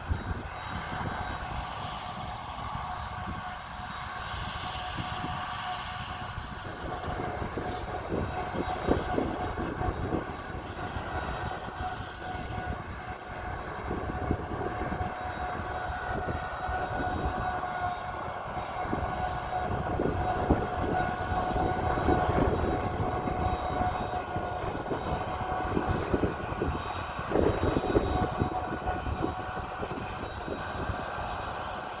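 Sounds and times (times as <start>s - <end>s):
diesel harvesting machinery running: 0.0s - 32.0s.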